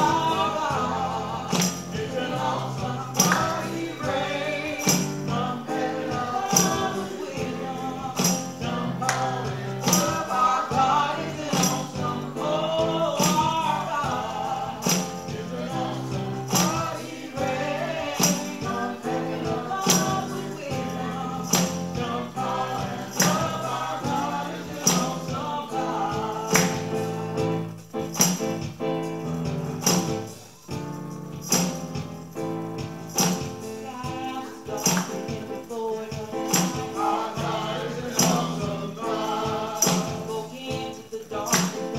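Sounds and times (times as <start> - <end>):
gospel choir singing: 0.0 - 41.9
tambourine beat: 0.0 - 41.9.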